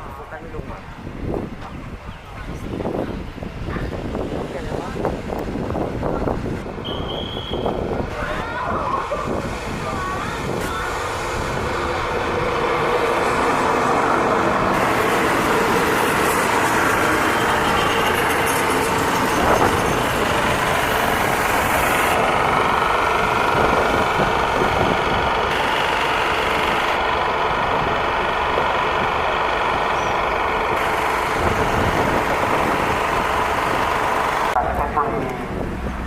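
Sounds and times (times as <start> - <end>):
diesel train engine idling: 0.0 - 36.0.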